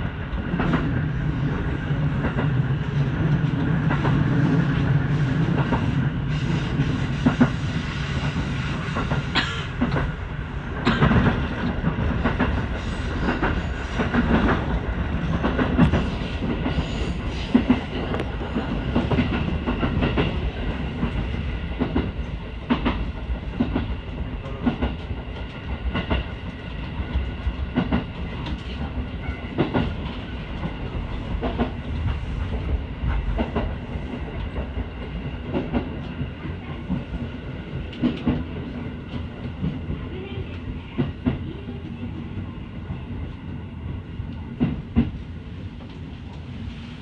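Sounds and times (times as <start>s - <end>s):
train rumble and hum: 0.0s - 47.0s.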